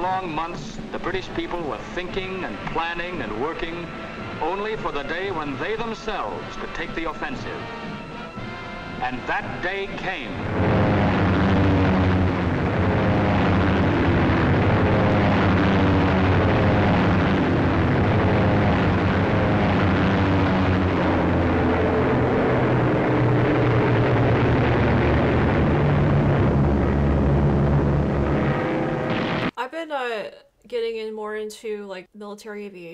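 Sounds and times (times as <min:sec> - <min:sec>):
propeller bomber engines droning: 0:00.0 - 0:29.5.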